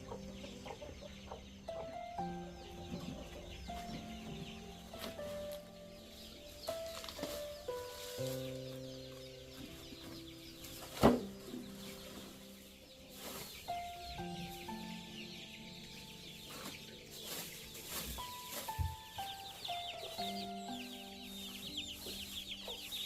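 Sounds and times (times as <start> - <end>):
chickens calling: 0.0 - 23.0
high chirps: 0.0 - 23.0
slow background music: 0.0 - 23.0.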